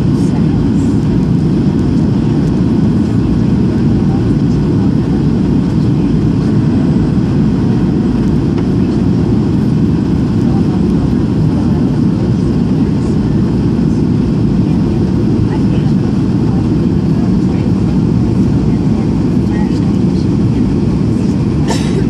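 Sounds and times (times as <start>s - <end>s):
airliner cabin roar: 0.0s - 22.0s.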